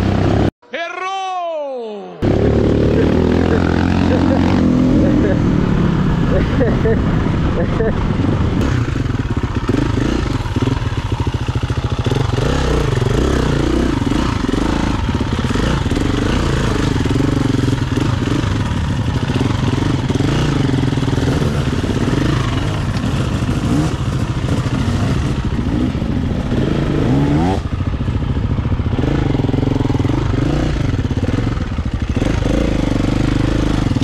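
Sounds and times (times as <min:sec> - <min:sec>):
dirt bike engine revving: 0:00.0 - 0:00.5, 0:02.2 - 0:34.0.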